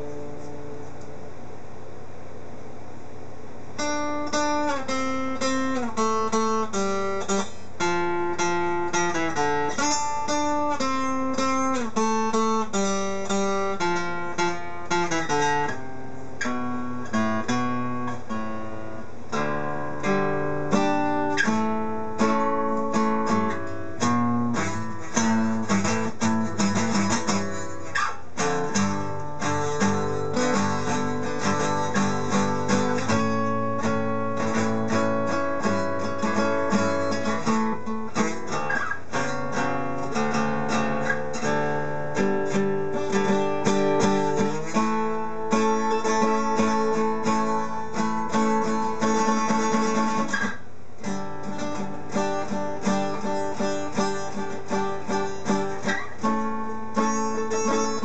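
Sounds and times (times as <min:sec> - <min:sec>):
acoustic guitar picking: 0:00.0 - 0:01.4, 0:03.6 - 0:58.0.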